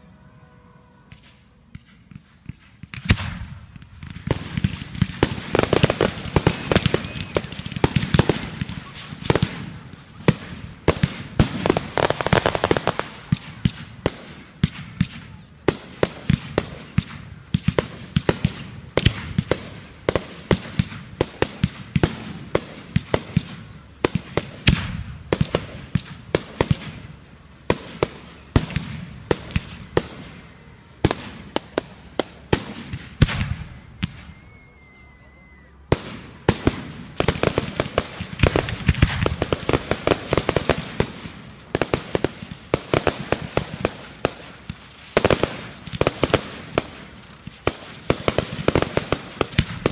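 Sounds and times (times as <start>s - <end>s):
fireworks banging and crackling: 1.1s - 49.9s.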